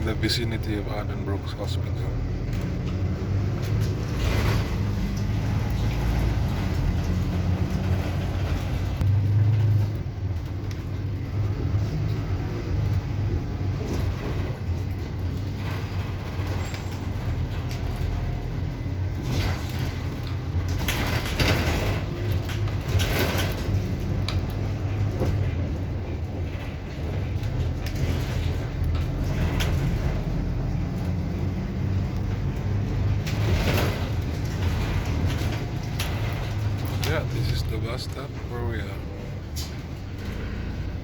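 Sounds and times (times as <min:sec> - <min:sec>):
bus engine hum: 0:00.0 - 0:41.0
road noise: 0:00.0 - 0:41.0.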